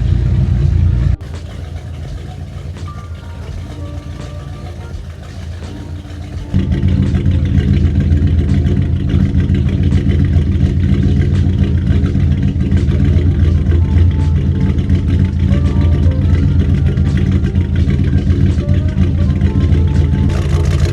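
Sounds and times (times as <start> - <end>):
boat engine running: 0.9 - 20.9.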